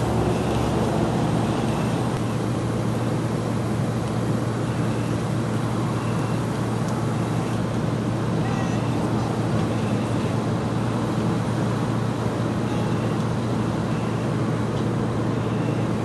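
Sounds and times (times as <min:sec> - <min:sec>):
machinery humming and rushing: 0:00.0 - 0:14.6.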